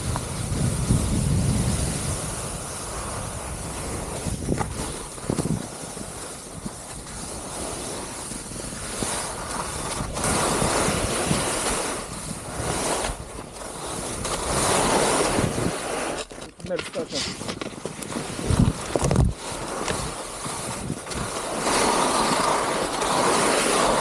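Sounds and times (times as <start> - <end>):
wind on microphone: 0.0 - 16.4, 17.3 - 24.0
skis scraping over snow: 0.0 - 24.0.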